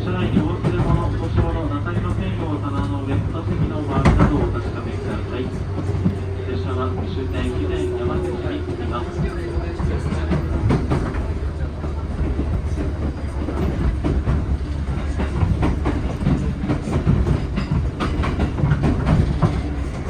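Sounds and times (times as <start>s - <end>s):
electric train running: 0.0s - 20.0s
wheels clicking over rail joints: 0.2s - 20.0s.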